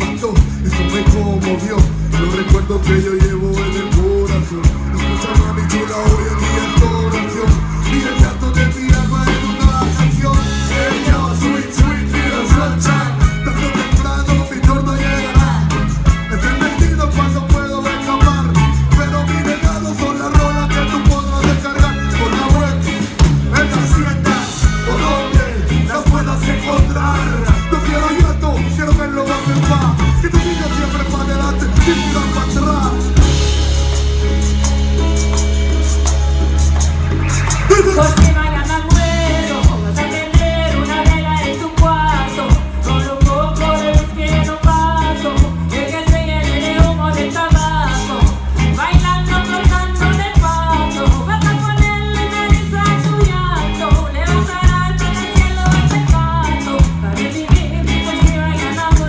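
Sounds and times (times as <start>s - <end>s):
heavy bass line: 0.0s - 59.0s
live band playing latin music: 0.0s - 59.0s
drum beat: 0.2s - 59.0s.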